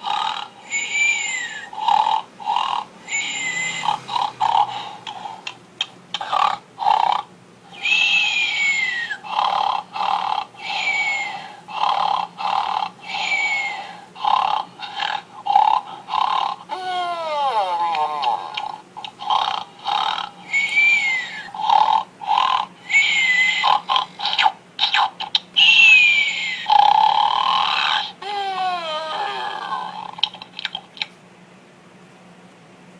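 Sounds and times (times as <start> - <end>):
toy snoring with whistle: 0.0 - 5.5, 6.2 - 25.0, 25.6 - 30.2.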